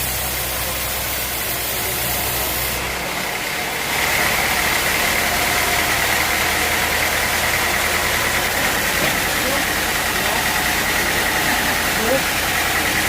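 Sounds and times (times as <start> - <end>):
sawmill machinery droning: 0.0 - 13.0.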